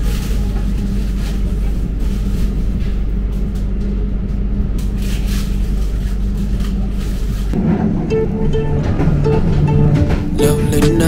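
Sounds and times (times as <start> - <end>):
steady hum: 0.0 - 11.0
train rumble inside carriage: 0.0 - 11.0.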